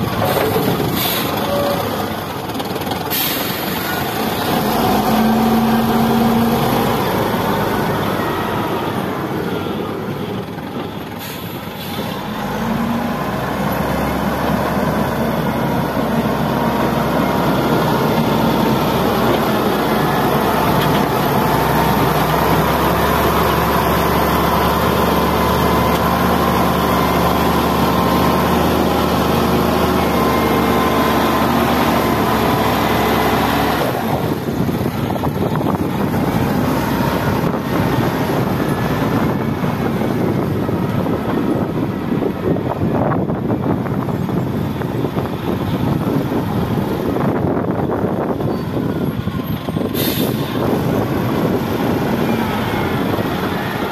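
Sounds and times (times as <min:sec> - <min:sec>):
wheel loader diesel engine: 0:00.0 - 0:53.9.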